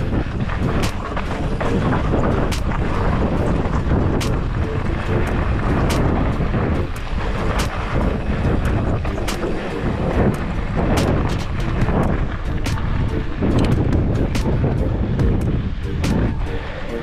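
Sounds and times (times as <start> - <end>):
bike clicks and rattles: 0.0 - 17.0
bike tyres rumbling on trail: 0.0 - 17.0
wind on microphone: 0.0 - 17.0.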